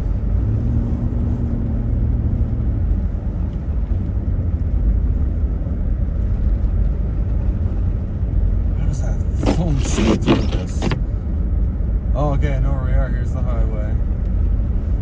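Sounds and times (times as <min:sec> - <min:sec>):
car driving low rumble: 0:00.0 - 0:15.0.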